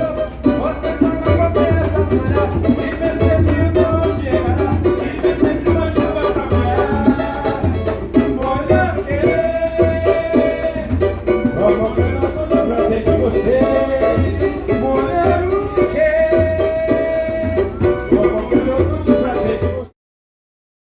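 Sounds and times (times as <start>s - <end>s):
high ticking percussion: 0.0s - 19.9s
low drum beat: 0.0s - 19.9s
person singing: 0.0s - 19.9s.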